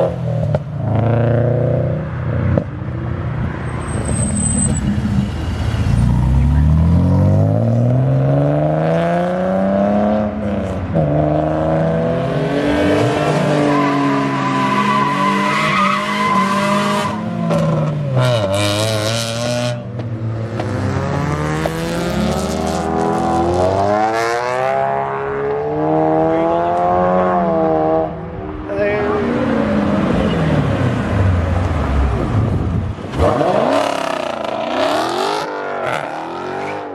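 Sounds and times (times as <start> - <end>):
car engines revving hard: 0.0 - 36.9.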